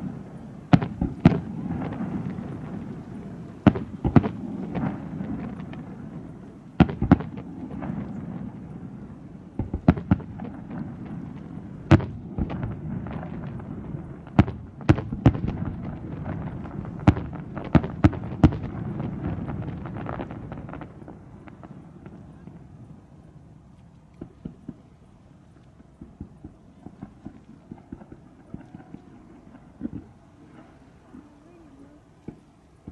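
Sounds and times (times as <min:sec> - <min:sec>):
low rumble of fireworks: 0:00.0 - 0:32.9.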